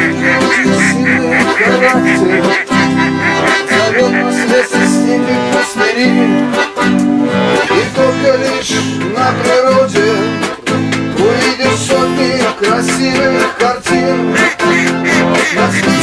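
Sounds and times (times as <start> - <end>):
song with chords and melody: 0.0 - 16.0.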